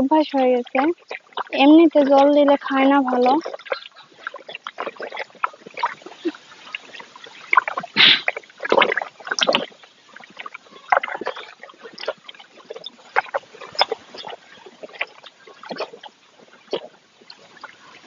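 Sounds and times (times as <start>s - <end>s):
cow slurping water: 0.0s - 18.0s.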